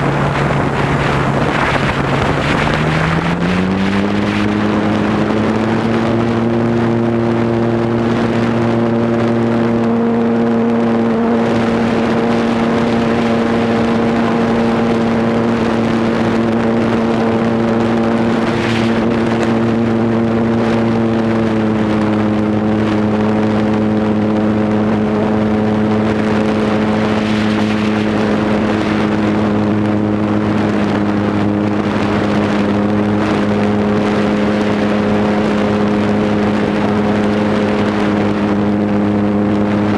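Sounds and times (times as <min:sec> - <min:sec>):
model airplane motor and propeller: 0:00.0 - 0:39.9
rushing air: 0:00.0 - 0:39.9.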